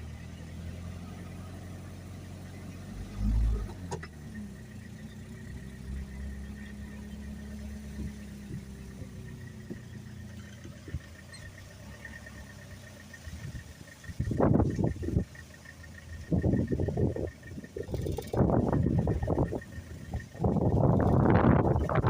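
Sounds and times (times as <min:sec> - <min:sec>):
van engine humming: 0:00.0 - 0:22.0.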